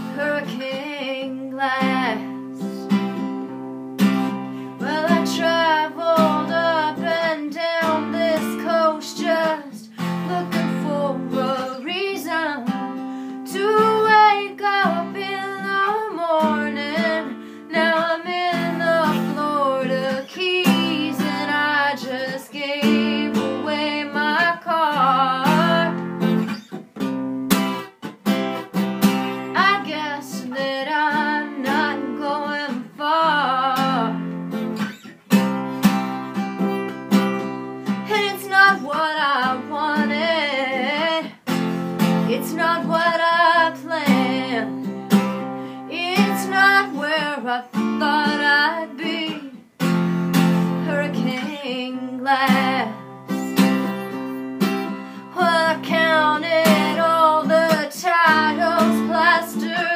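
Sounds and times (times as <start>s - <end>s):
woman singing: 0.0s - 3.6s, 4.2s - 26.5s, 29.3s - 34.8s, 37.8s - 49.8s, 50.4s - 54.2s, 54.8s - 59.9s
acoustic guitar: 0.0s - 59.9s.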